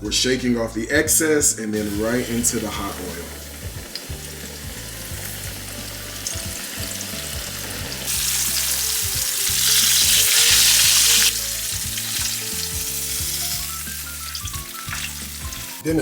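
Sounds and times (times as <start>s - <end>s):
fish deep-frying in oil: 1.8s - 16.0s.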